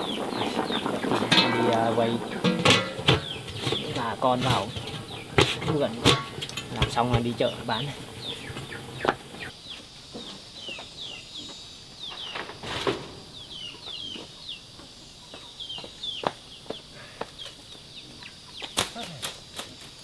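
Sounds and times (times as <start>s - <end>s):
chicks peeping: 0.0s - 12.5s, 13.3s - 18.8s.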